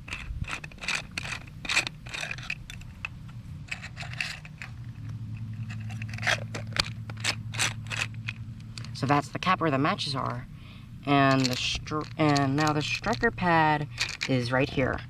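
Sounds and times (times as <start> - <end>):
plastic case scrapes and clicks: 0.0 - 9.1, 11.3 - 14.5
steady low hum: 0.0 - 15.0.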